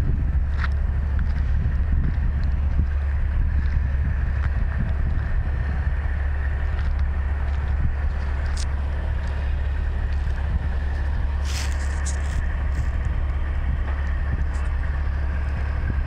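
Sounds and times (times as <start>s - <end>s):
truck engines rumbling: 0.0s - 16.0s
wind buffeting microphone: 0.0s - 16.0s.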